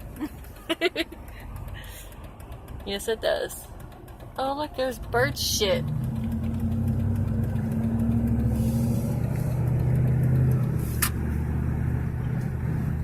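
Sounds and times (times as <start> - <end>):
engine and road hum in cab: 0.0 - 13.0.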